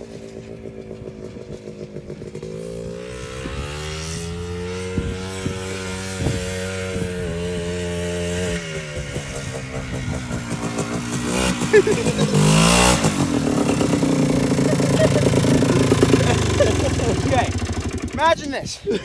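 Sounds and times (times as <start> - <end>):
quad bike engine running: 0.0 - 18.7.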